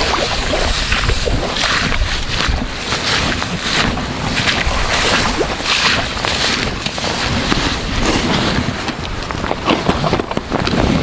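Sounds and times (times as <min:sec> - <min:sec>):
rustling in dry grass: 0:00.0 - 0:11.0
wind buffeting microphone: 0:00.0 - 0:11.0.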